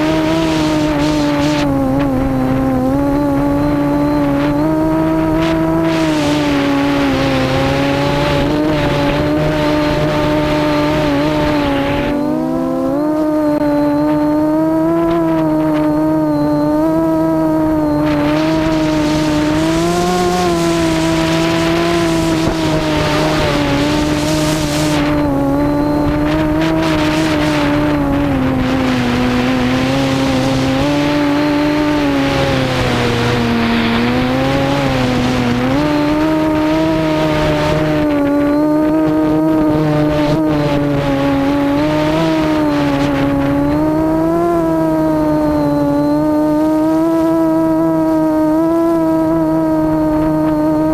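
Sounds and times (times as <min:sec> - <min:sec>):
rushing noise: 0:00.0 - 0:12.7, 0:13.4 - 0:46.3
drone motors whining: 0:00.0 - 0:50.9.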